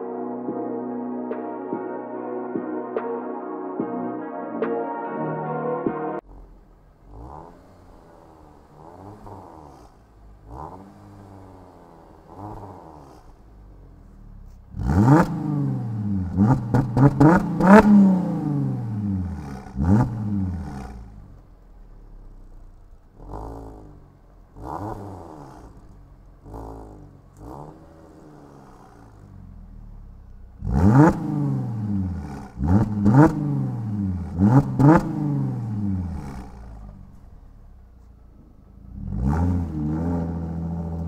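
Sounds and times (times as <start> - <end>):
car engine revved in blips: 6.2 - 41.0.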